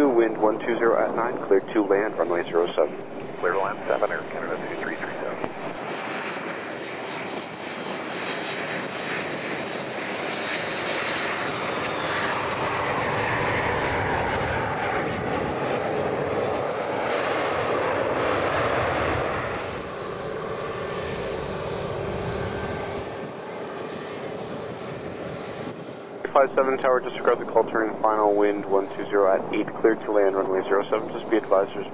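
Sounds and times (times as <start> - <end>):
jet engines landing: 0.0 - 31.9.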